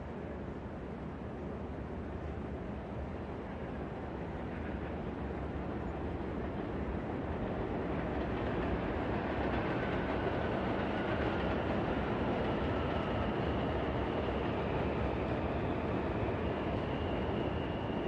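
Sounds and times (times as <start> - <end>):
subway train rumble: 0.0 - 18.0.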